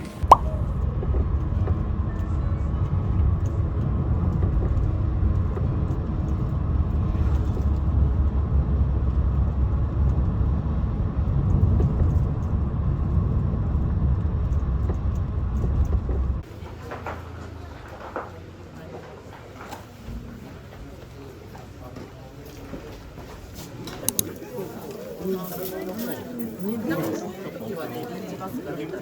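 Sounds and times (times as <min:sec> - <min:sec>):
moving vehicle rumble: 0:00.0 - 0:29.0.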